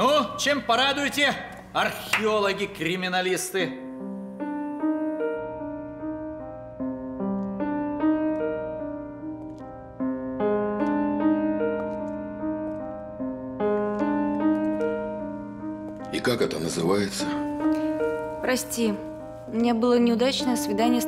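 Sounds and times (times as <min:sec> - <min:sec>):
piano broken-chord figure: 0:00.0 - 0:21.0.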